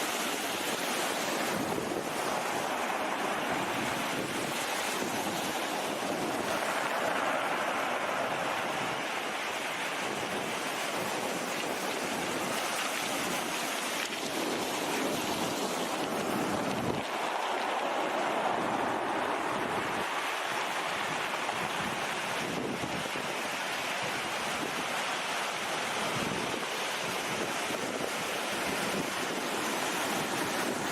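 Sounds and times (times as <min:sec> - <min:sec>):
sea surf washing: 0:00.0 - 0:30.9
wind on microphone: 0:00.0 - 0:30.9.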